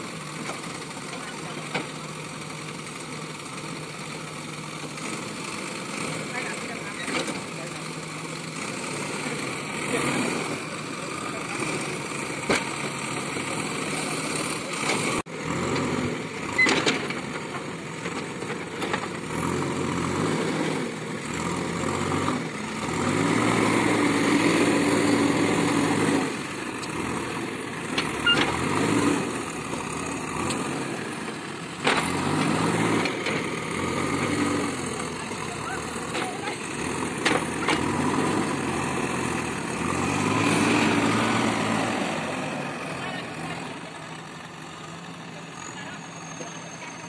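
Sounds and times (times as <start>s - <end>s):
diesel engine running and revving: 0.0s - 47.0s.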